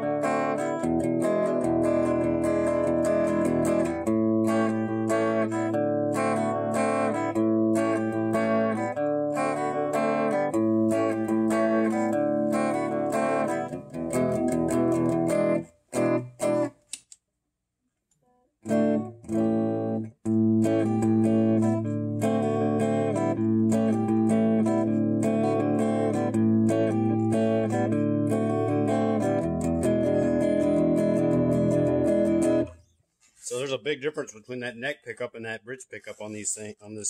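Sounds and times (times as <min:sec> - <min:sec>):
clean electric guitar: 0:00.0 - 0:16.7, 0:18.6 - 0:32.8.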